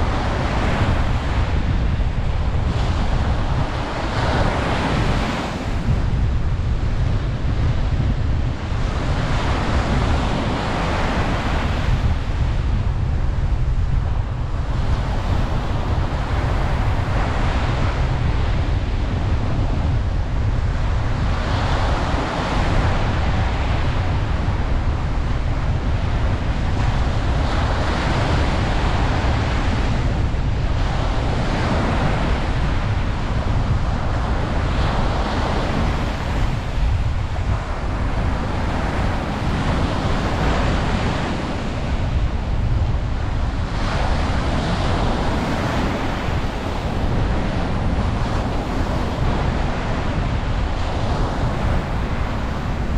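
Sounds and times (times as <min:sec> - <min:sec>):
ocean waves breaking on beach: 0:00.0 - 0:52.9
wind buffeting microphone: 0:00.0 - 0:52.9.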